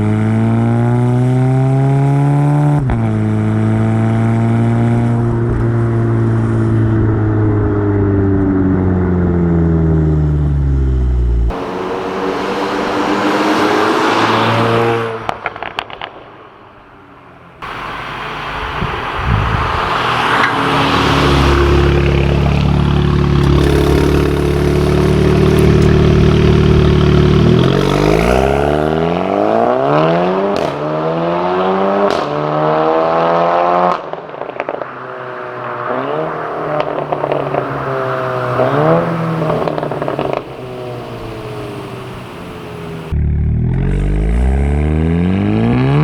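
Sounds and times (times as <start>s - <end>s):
car engine revving: 0.0s - 16.8s, 17.5s - 46.0s.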